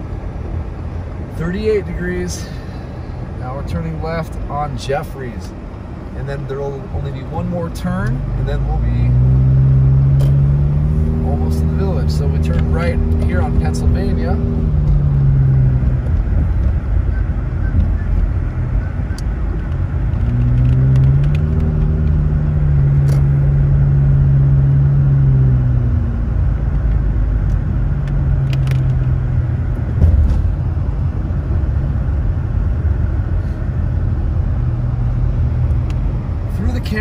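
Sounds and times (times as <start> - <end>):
car engine: 0.0 - 37.0
tyres on wet road: 0.0 - 37.0.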